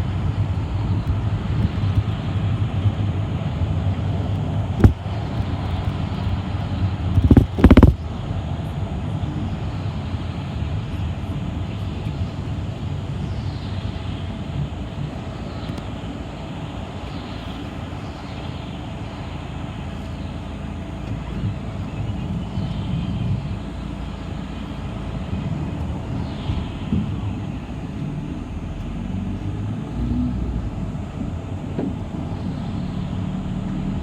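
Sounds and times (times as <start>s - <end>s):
bus engine and road rumble: 0.0s - 34.0s.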